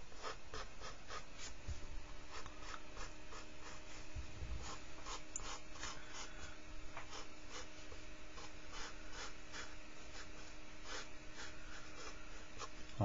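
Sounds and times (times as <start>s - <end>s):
pencil scratching on paper: 0.0s - 12.9s
faint steady hum: 0.0s - 13.0s.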